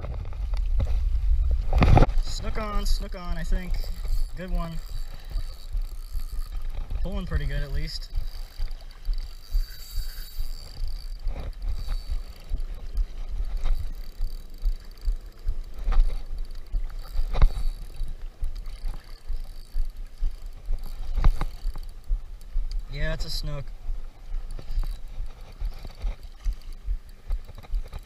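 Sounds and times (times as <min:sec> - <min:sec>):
wind buffeting microphone: 0:00.0 - 0:28.0
spinning reel cranking: 0:02.2 - 0:23.4, 0:24.4 - 0:28.0.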